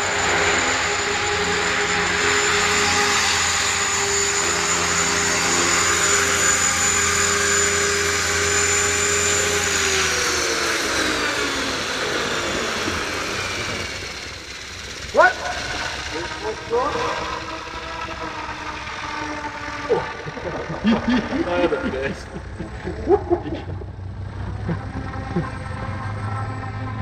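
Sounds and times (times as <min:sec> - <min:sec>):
rc helicopter motor and rotors whining: 0:00.0 - 0:27.0.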